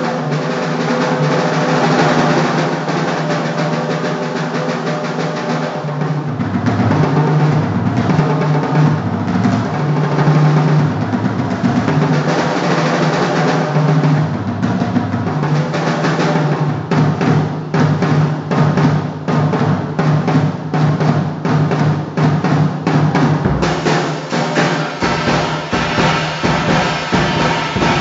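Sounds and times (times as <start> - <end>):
drum rolls on snare and bass: 0.0 - 28.0.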